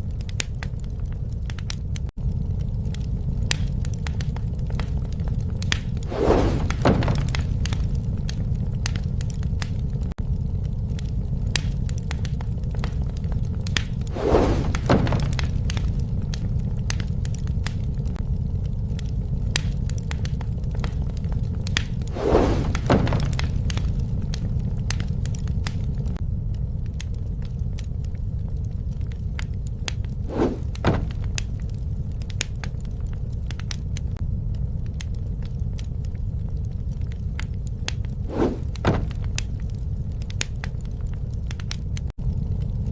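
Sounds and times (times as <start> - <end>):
burning wood crackling and popping: 0.0 - 42.9
rumble of flames: 0.0 - 42.9.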